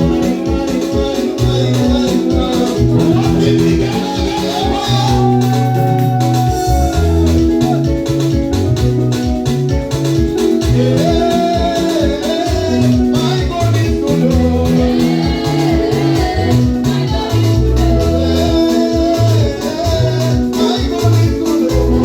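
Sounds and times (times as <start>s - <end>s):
person singing melody: 0.0s - 8.3s, 10.4s - 22.0s
bass: 0.0s - 22.0s
drums: 0.0s - 22.0s
electronic keyboard chords: 0.0s - 22.0s.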